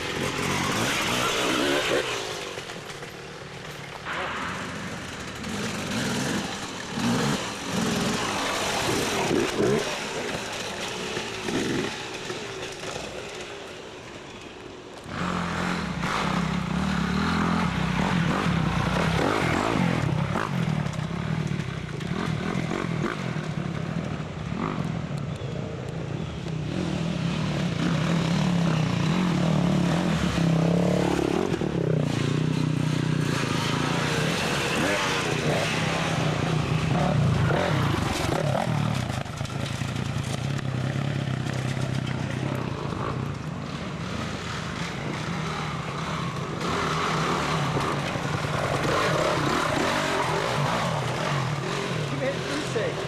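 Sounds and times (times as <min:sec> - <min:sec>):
dirt bike engines running: 0:00.0 - 0:53.0.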